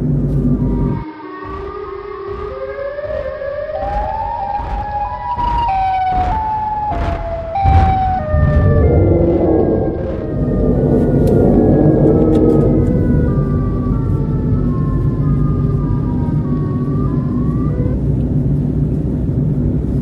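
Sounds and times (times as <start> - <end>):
car road rumble: 0.0 - 20.0
eerie siren-like tone: 0.4 - 18.7.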